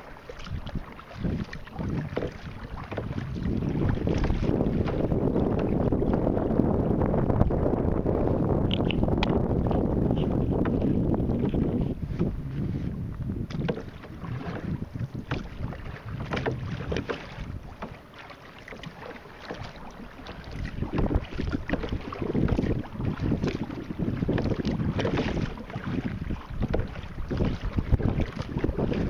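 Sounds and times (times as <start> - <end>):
water slapping against hull: 0.0 - 29.0
wind buffeting microphone: 0.0 - 29.0.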